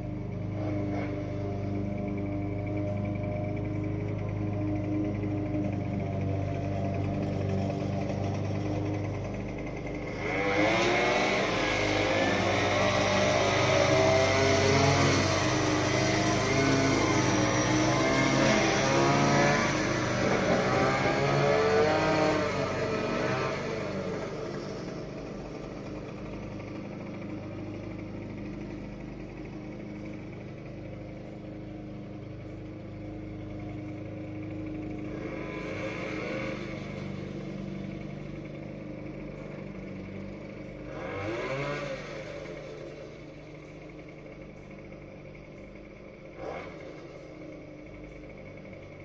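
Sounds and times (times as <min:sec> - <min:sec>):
small petrol engine running: 0:00.0 - 0:49.0.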